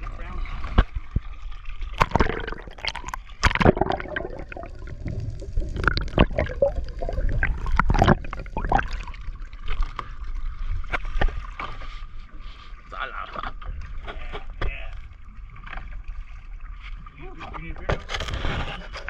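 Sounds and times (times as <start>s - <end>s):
water splashing against hull: 0.0s - 19.0s.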